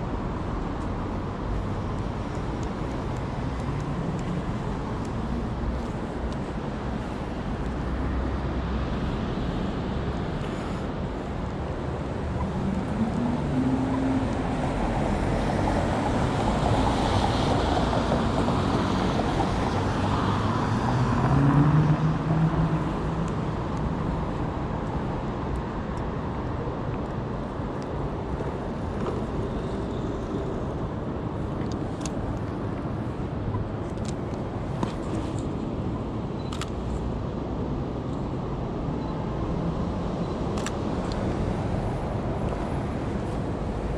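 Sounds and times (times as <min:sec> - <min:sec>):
passing vehicles: 0:00.0 - 0:43.9
roadway din: 0:00.0 - 0:43.9.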